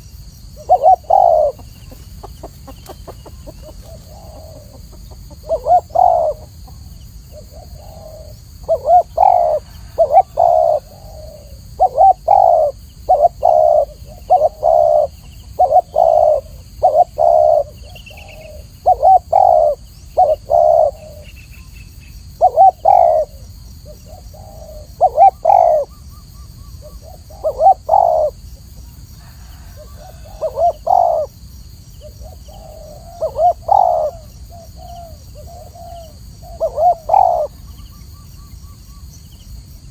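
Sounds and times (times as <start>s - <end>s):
dove cooing: 0.0s - 21.4s, 22.4s - 31.4s, 32.0s - 38.8s.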